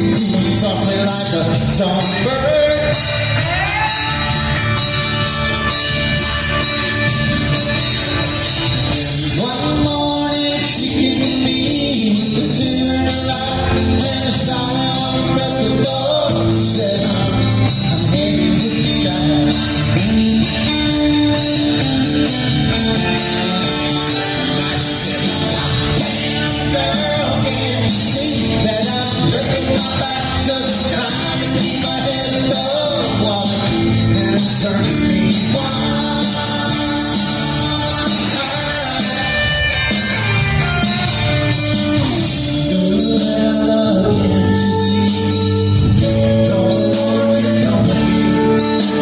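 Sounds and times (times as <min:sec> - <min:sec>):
live soft-rock band playing: 0:00.0 - 0:49.0.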